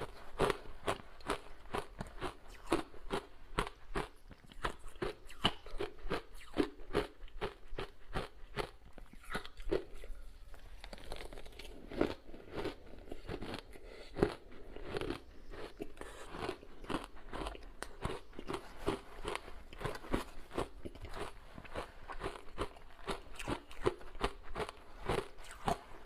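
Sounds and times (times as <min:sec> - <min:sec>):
chewing and crunching ice: 0:00.0 - 0:26.0.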